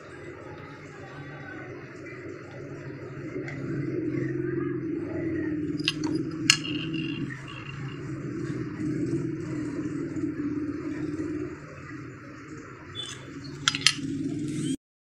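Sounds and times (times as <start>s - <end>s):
washing machine humming: 0.0s - 14.7s.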